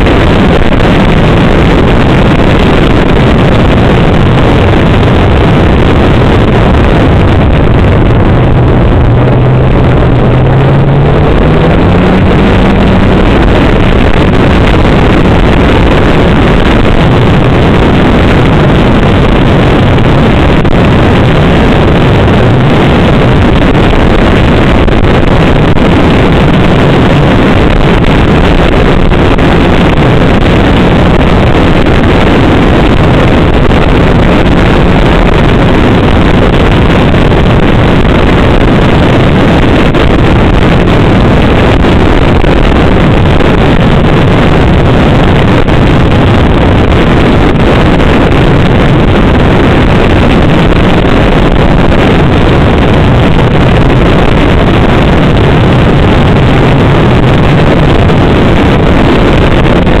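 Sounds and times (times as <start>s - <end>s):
snowmobile engine running: 0.0s - 60.0s
wind buffeting microphone: 0.0s - 60.0s.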